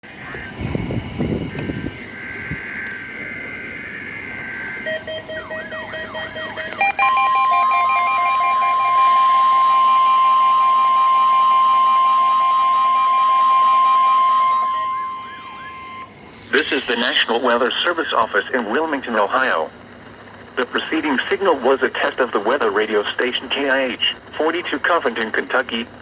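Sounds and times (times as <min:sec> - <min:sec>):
beeping and warbling alarm tones: 0:00.0 - 0:25.7
steady high alarm tone: 0:00.1 - 0:25.2.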